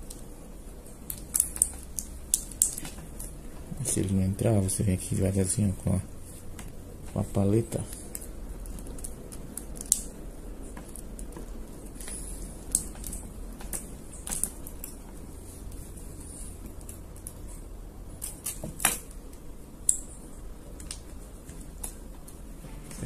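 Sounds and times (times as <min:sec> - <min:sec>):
wire rustling: 0:00.0 - 0:23.0.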